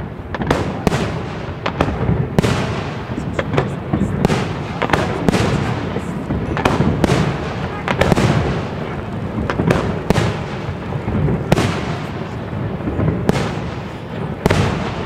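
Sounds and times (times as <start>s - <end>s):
fireworks bursting with rumble: 0.0s - 15.0s.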